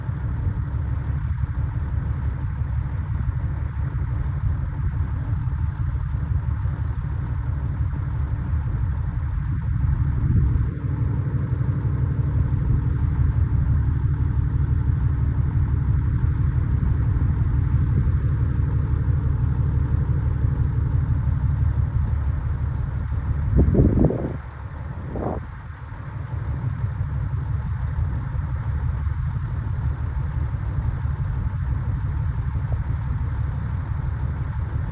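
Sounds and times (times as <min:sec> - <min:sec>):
heavy diesel engine under load: 0:00.0 - 0:34.9.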